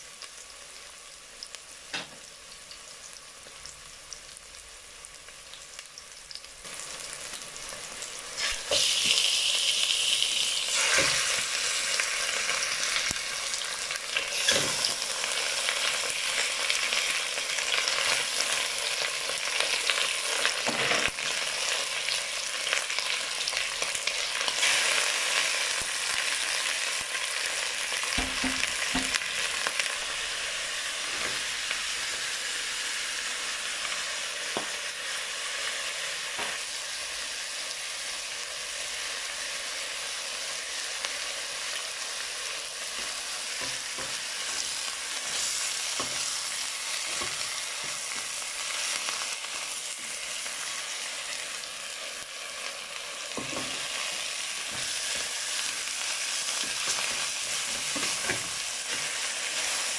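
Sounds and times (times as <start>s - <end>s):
chicken sizzling in hot oil: 0.0s - 59.9s.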